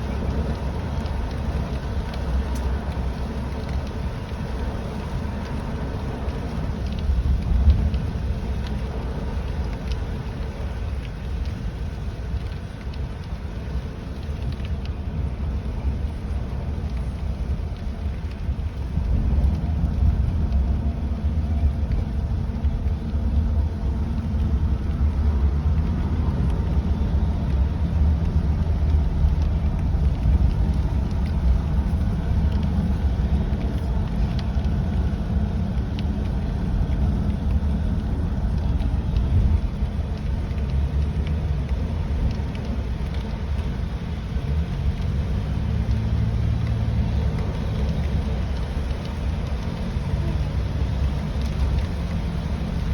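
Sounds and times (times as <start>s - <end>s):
raindrops ticking: 0.0s - 52.9s
road and engine rumble: 0.0s - 52.9s.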